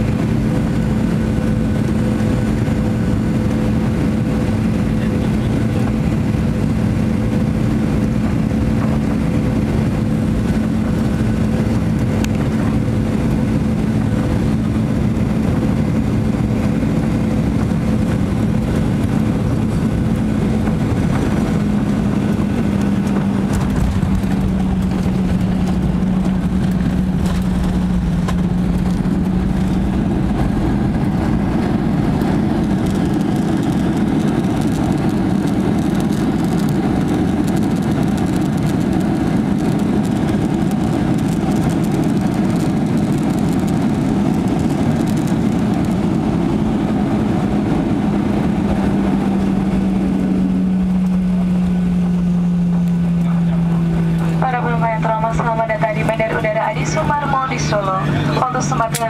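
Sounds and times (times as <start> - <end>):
jet engines rumbling: 0.0 - 59.0
reverse thrust roar: 0.0 - 59.0.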